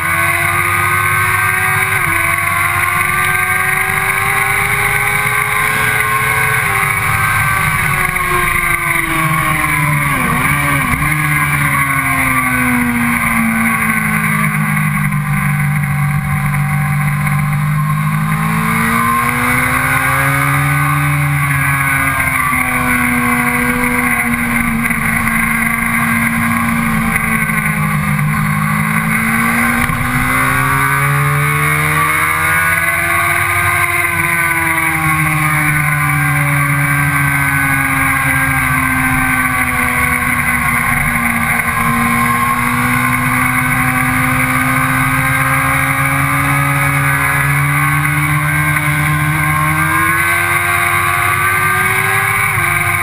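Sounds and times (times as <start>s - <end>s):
motorcycle engine at speed: 0.0s - 53.0s.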